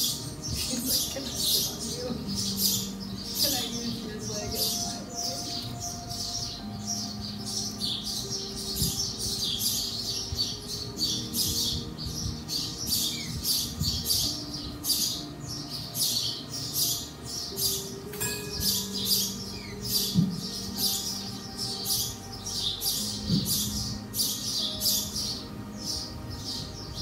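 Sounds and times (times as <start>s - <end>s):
faint sustained tones: 0.0s - 27.0s
small bird chirping: 0.0s - 27.0s.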